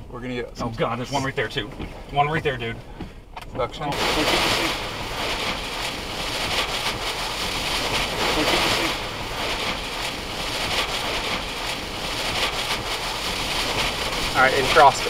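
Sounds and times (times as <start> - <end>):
rain lashing vehicle: 0.0 - 15.0
wind gusting against vehicle: 0.0 - 15.0.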